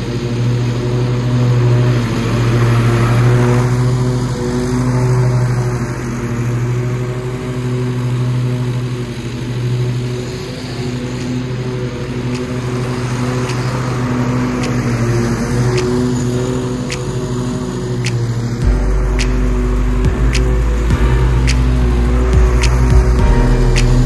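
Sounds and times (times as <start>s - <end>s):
riding mower engine running: 0.0s - 24.0s.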